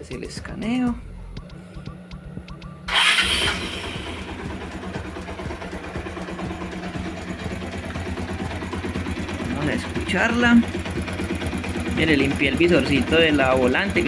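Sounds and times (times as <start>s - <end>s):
motorcycle engine starting and idling: 1.4s - 14.0s.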